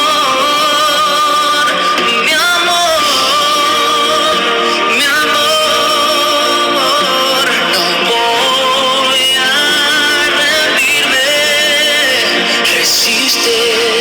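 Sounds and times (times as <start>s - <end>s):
song with sung vocals: 0.0s - 14.0s.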